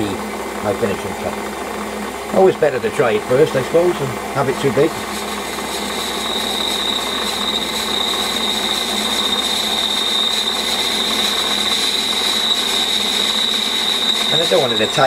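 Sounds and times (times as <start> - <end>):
high whine of cutting tool: 0.0 - 15.0
metal lathe machining: 0.0 - 15.0.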